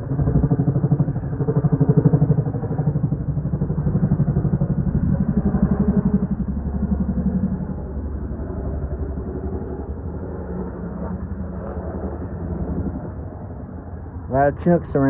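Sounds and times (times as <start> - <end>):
helicopter engine noise: 0.0 - 15.0
helicopter rotor blades thumping: 0.0 - 15.0.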